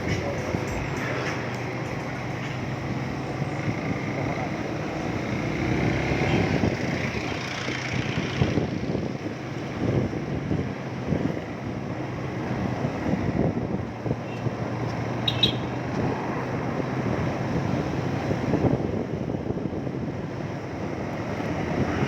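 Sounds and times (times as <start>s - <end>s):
wind buffeting microphone: 0.0s - 15.2s, 15.8s - 22.0s
motorcycle engine hum: 0.0s - 22.0s.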